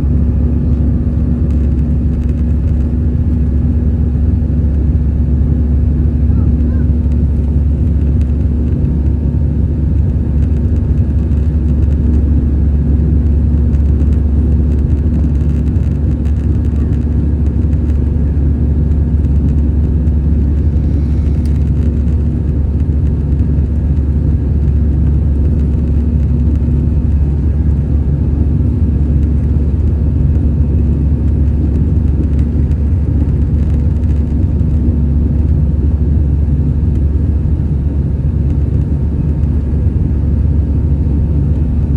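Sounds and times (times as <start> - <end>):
airplane cabin engine rumble: 0.0 - 41.9
steady cabin hum: 0.0 - 41.9.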